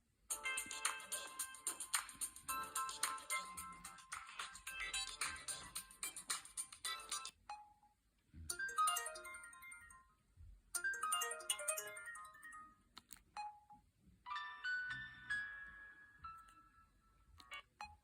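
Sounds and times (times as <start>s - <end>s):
phone ringtone melody: 0.3s - 7.8s, 8.5s - 10.2s, 10.8s - 12.8s, 13.4s - 18.0s.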